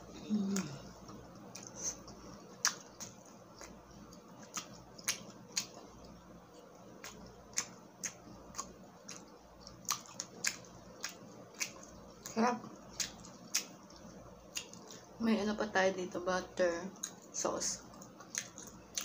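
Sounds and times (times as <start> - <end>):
wet mouth chewing: 0.4 - 15.1, 17.0 - 19.0.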